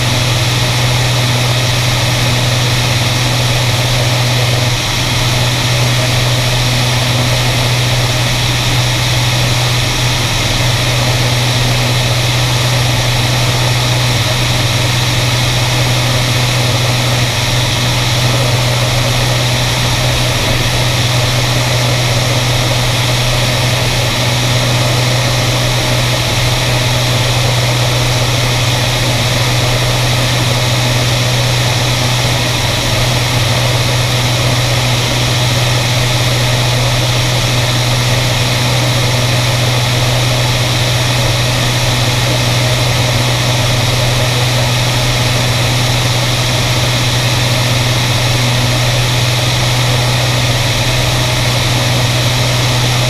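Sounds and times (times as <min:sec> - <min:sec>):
light aircraft engine droning: 0:00.0 - 0:53.0.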